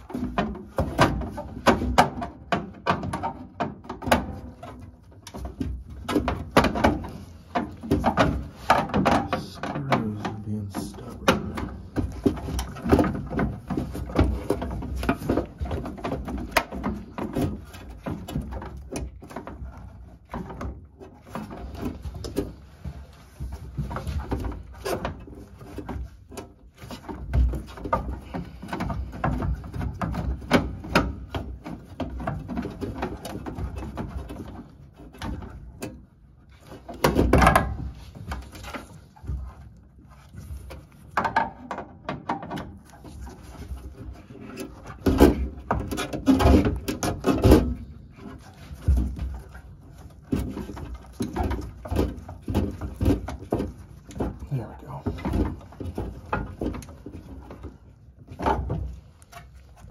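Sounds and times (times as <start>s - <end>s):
knocks and clicks of parts handled: 0.0s - 59.9s.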